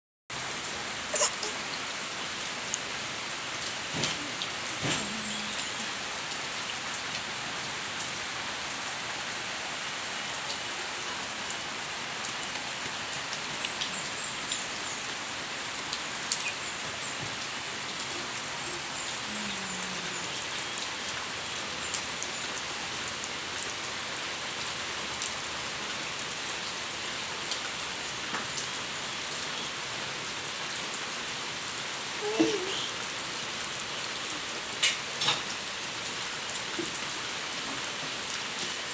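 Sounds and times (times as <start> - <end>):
steady rain falling: 0.3 - 38.9.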